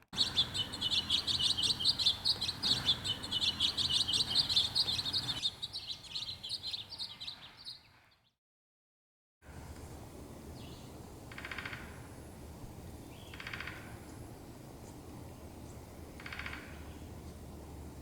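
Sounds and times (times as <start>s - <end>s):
small birds chirping: 0.0s - 8.2s, 10.5s - 11.9s, 12.9s - 17.9s.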